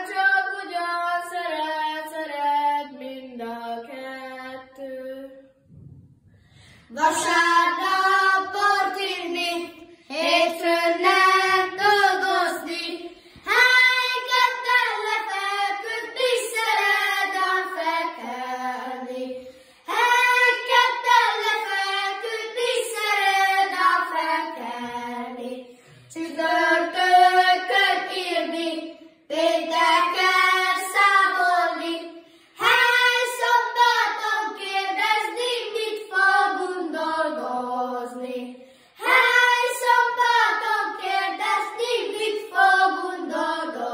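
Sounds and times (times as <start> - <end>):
children singing unaccompanied: 0.0 - 5.4, 6.9 - 43.9.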